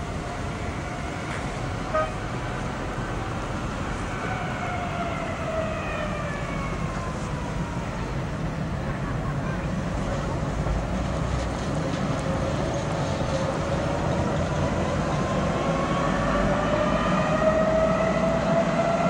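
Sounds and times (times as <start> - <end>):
city traffic: 0.0 - 19.0.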